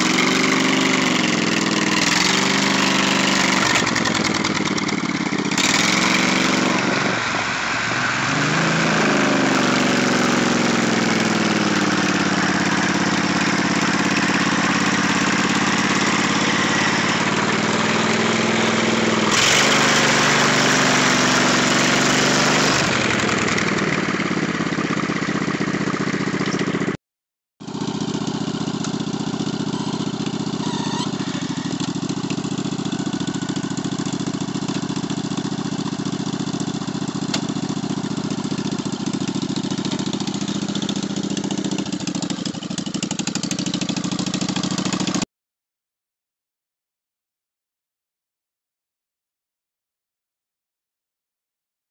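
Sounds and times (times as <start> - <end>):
riding lawn mower engine: 0.0 - 27.0, 27.6 - 45.2.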